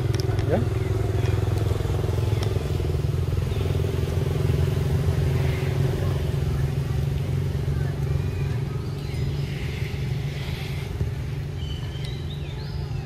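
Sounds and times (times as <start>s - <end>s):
small engine running: 0.0s - 11.9s.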